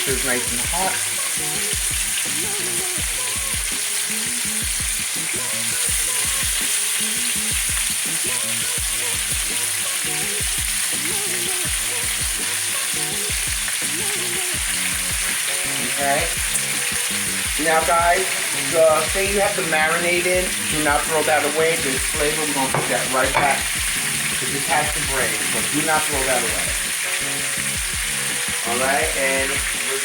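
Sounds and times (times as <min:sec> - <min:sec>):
meat sizzling in a pan: 0:00.0 - 0:30.0.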